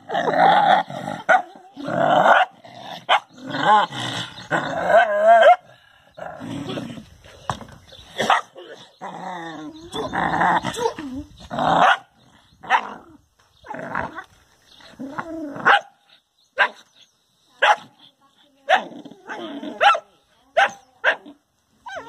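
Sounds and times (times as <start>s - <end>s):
dog barking and growling: 0.0s - 7.1s, 8.1s - 14.3s, 14.9s - 16.9s, 17.6s - 18.0s, 18.6s - 22.0s.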